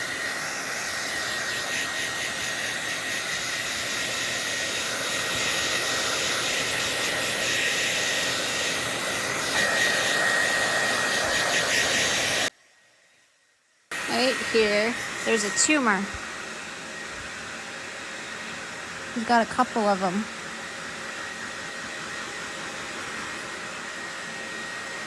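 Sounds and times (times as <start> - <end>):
hair dryer blowing: 0.0 - 12.6, 13.9 - 25.0.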